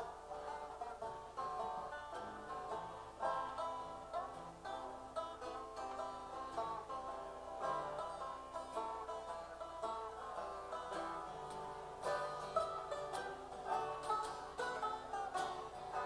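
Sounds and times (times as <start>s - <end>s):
plucked string instruments: 0.0s - 16.0s.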